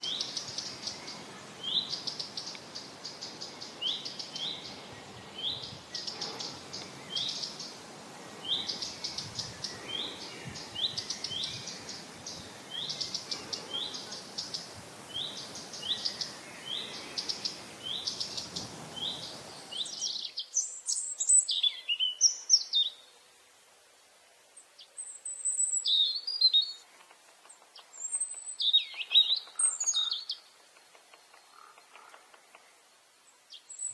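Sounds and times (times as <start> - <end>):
birds chirping: 0.0 - 23.0, 24.6 - 33.9
steady background hiss: 0.0 - 33.9.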